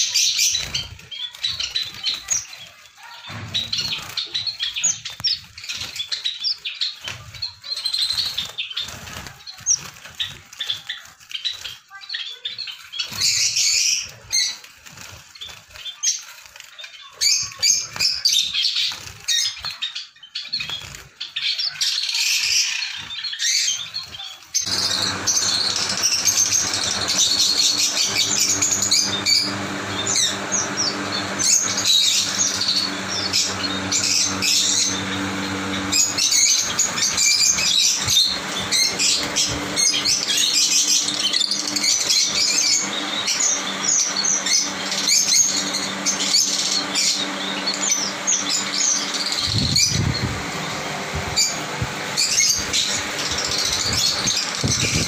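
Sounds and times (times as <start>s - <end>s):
finches chirping and twittering: 0.0s - 55.0s
wing flutters: 0.0s - 55.0s.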